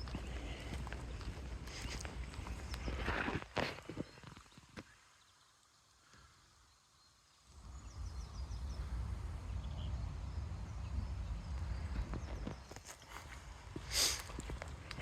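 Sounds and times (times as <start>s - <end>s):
wind rumbling on microphone: 0.0s - 5.0s, 7.5s - 15.0s.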